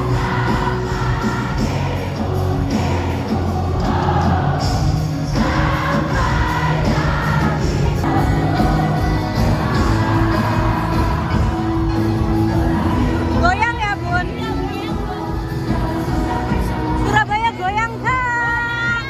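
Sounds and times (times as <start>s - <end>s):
crowd voices: 0.0s - 19.0s
pop song with lead singer: 0.0s - 19.0s.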